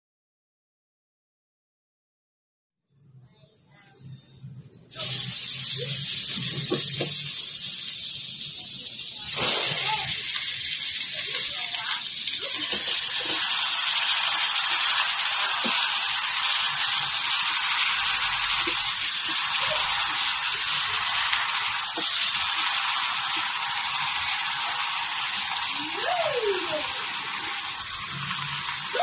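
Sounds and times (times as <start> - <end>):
meat sizzling in a pan: 4.9 - 29.0.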